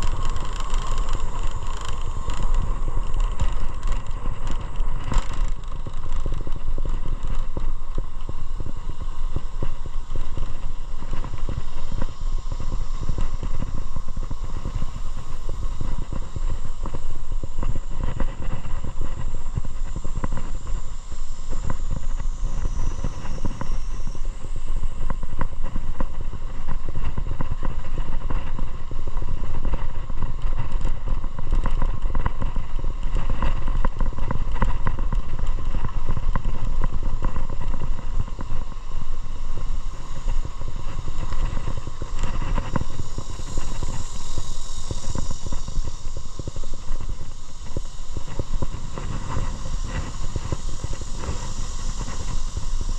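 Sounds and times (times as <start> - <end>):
motorcycle engine rumble: 0.0 - 52.9
road and wind noise: 0.0 - 52.9.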